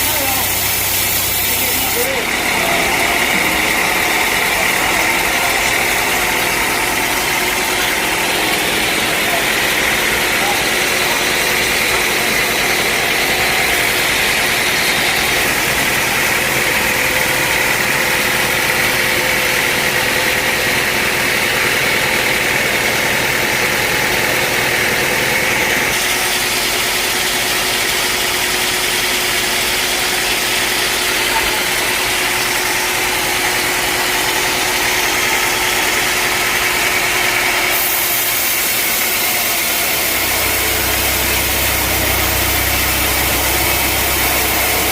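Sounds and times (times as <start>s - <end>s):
sawmill machinery hissing: 0.0s - 44.9s
steady machine hum: 0.0s - 44.9s.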